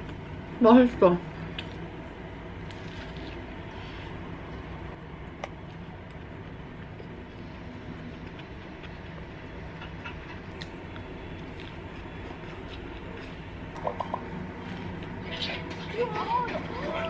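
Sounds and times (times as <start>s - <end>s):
steady low hum: 0.0s - 17.0s
soft chewing: 1.4s - 17.0s.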